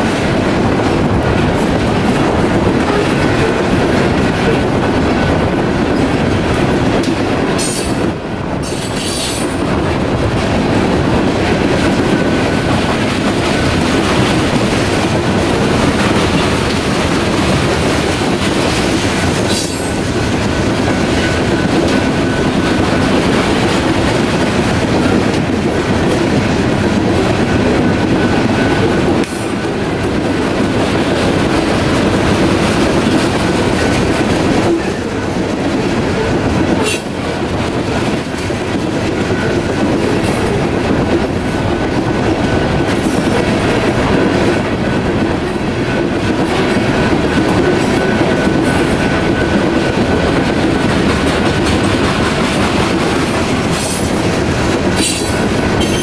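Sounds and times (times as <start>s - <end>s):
train cars rumbling past: 0.0s - 56.0s
wheels clacking over rail joints: 0.0s - 56.0s.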